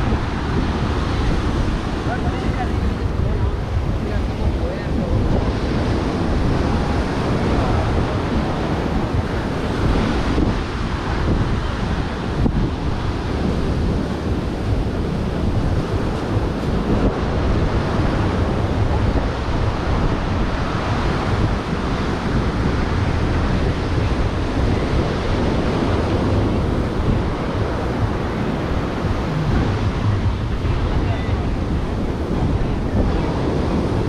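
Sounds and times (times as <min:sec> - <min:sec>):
ocean waves breaking on beach: 0:00.0 - 0:34.0
wind rumbling on microphone: 0:00.0 - 0:34.0.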